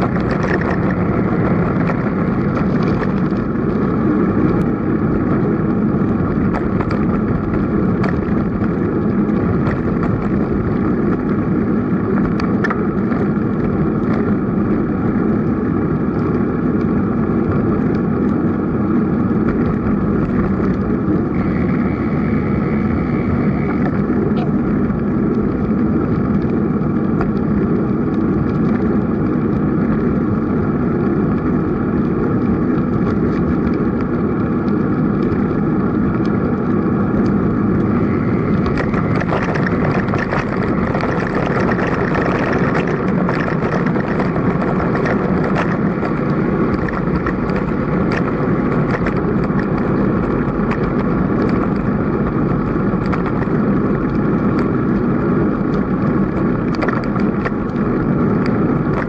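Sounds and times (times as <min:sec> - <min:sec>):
bike clicks and rattles: 0:00.0 - 0:59.0
faint steady whine: 0:00.0 - 0:59.0
tyre noise: 0:00.0 - 0:59.0
wind rumble: 0:00.0 - 0:59.0.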